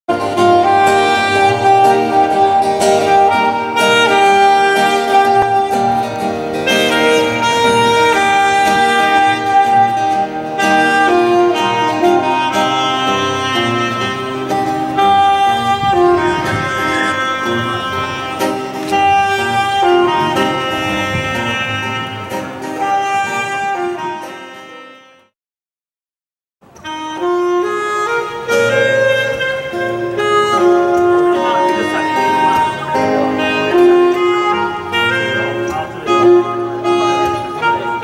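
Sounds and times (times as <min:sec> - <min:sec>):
instrumental backing: 0:00.1 - 0:25.3, 0:26.6 - 0:38.0
saxophone slow melody: 0:00.1 - 0:25.3, 0:26.6 - 0:38.0.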